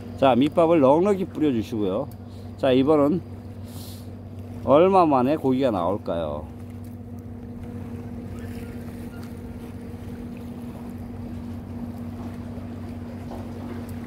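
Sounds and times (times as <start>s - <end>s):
low engine hum: 0.0s - 14.0s
wind and water hiss: 0.0s - 14.0s.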